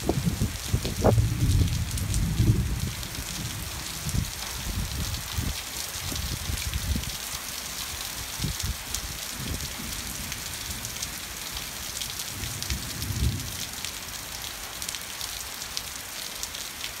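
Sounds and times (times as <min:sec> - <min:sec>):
heavy rain on pavement and foliage: 0:00.0 - 0:17.0.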